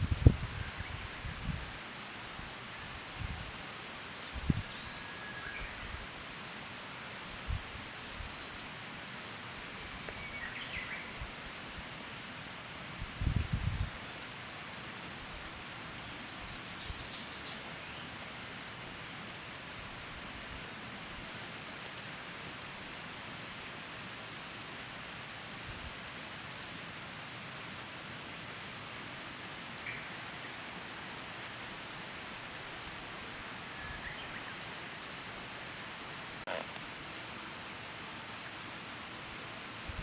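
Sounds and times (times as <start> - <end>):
outdoor ambient hiss: 0.0 - 40.0.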